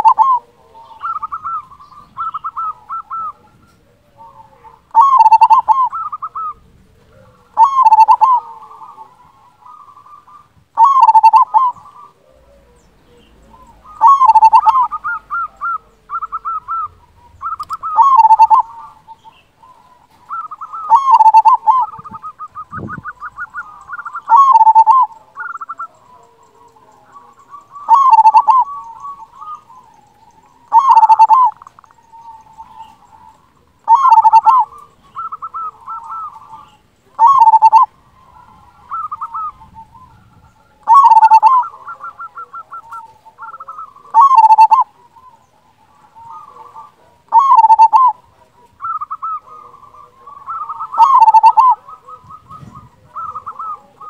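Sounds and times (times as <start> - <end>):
dove cooing song: 0.0 - 54.0
faint cooing and trills: 0.0 - 54.0.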